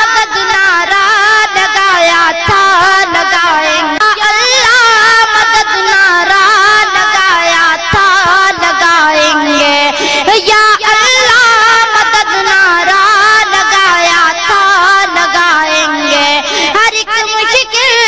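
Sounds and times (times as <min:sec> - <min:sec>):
high voice singing devotional song: 0:00.0 - 0:18.0.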